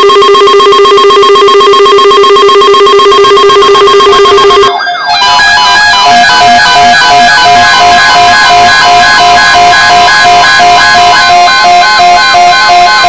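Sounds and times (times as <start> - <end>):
weather radio alert tone: 0.0 - 13.0.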